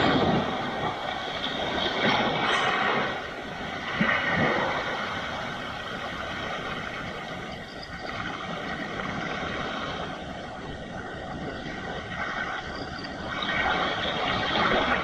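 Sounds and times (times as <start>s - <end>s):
waves breaking on rocky shore: 0.0s - 15.0s.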